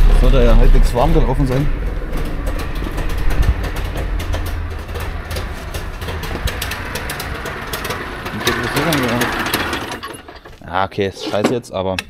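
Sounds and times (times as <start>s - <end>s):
two-stroke engine idling: 0.0s - 10.6s.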